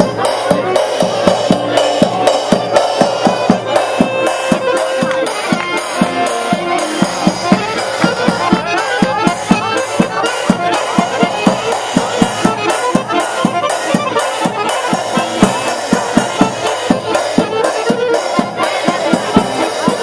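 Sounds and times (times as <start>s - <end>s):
live band playing folk dance music: 0.0s - 20.0s.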